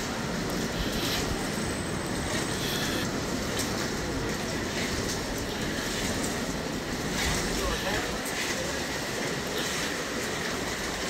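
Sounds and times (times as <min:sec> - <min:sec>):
low street rumble: 0:00.0 - 0:11.0
rain hiss: 0:00.0 - 0:11.0.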